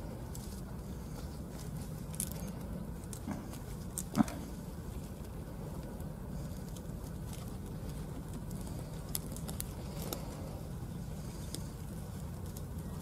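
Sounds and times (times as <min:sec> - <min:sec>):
dry grass rustling and crackling: 0:00.0 - 0:13.0
steady low rumble: 0:00.0 - 0:13.0.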